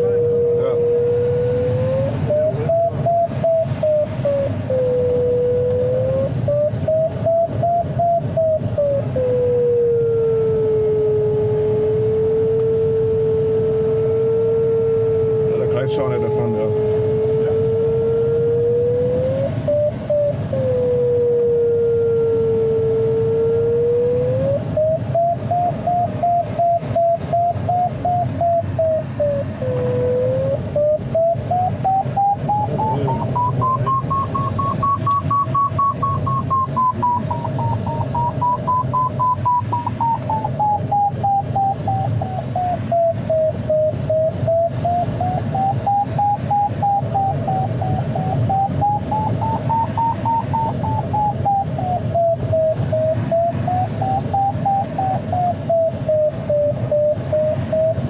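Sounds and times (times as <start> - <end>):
variometer beeping rapidly: 0.0 - 8.8, 11.3 - 58.0.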